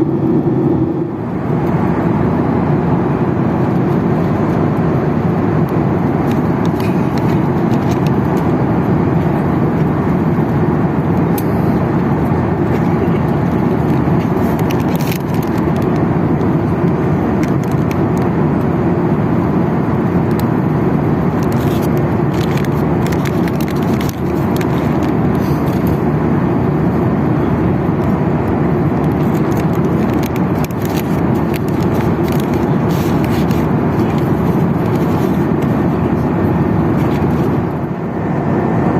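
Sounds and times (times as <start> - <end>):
airplane cabin noise: 0.0 - 38.9.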